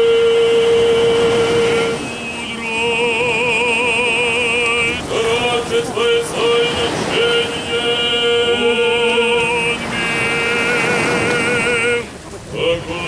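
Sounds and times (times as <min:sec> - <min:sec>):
voices chanting long notes: 0:00.0 - 0:13.0.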